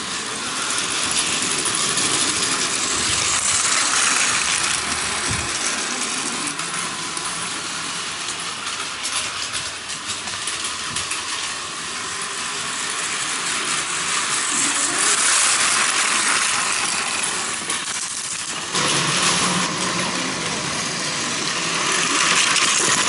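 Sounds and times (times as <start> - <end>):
toy train motor whirring: 0.0 - 23.0
wheels clattering over track joints: 0.0 - 23.0.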